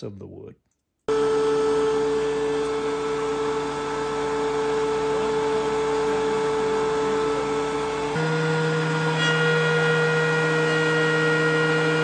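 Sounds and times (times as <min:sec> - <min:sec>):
thickness planer whining: 0:01.1 - 0:12.0.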